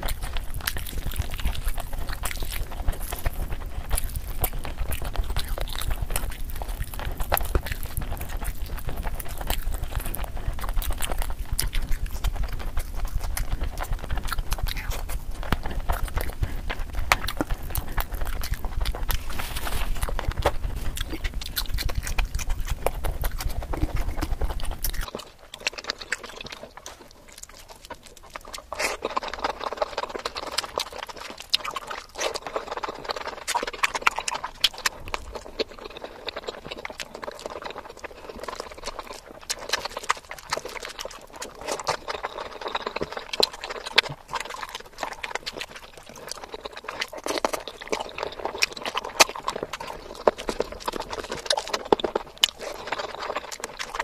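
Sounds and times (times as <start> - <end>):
chewing and wet mouth smacks: 0.0 - 54.0.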